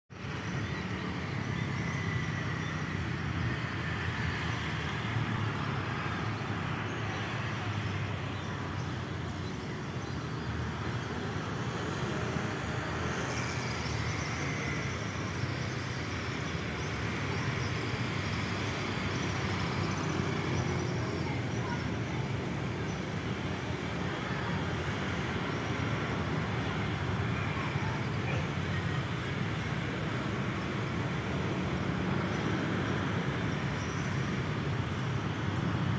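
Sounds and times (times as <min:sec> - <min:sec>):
road traffic hum: 0:00.1 - 0:35.9.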